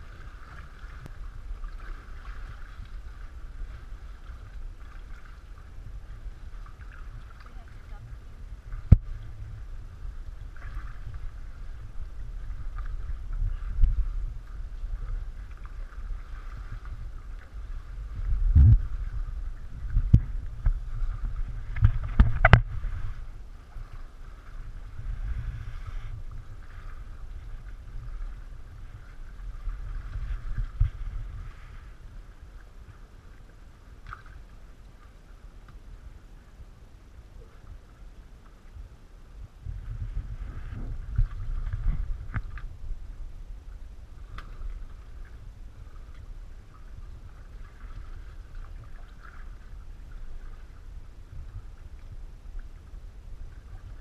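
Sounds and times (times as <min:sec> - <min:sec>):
water lapping: 0:00.0 - 0:36.5, 0:39.7 - 0:54.0
low rumble: 0:00.0 - 0:54.0.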